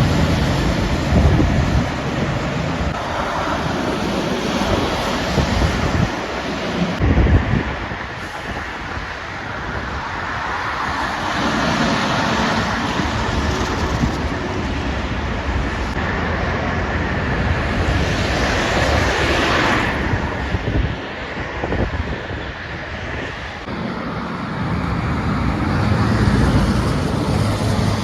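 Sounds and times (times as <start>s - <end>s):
traffic rushing past: 0.0s - 28.0s
wind buffeting microphone: 0.0s - 28.0s.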